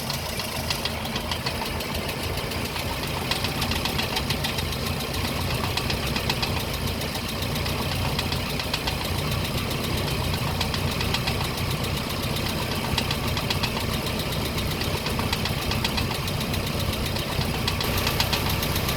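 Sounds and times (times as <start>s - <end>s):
engine drone: 0.0s - 18.9s
fast engine rattle: 0.0s - 18.9s.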